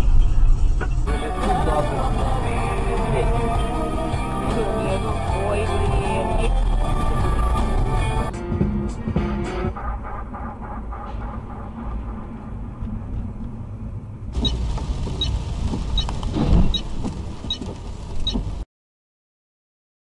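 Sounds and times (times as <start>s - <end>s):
car engine and road noise: 0.0s - 18.7s.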